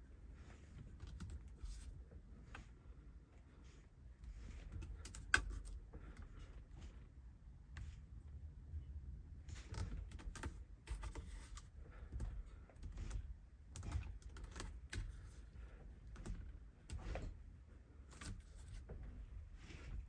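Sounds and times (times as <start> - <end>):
soft handling clicks and rubs: 0.0 - 20.0.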